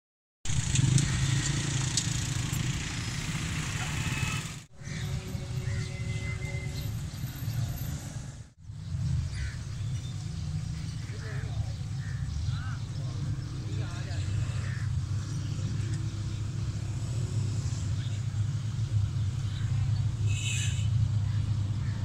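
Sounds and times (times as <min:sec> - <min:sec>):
idling vehicle engines: 0:00.5 - 0:22.0.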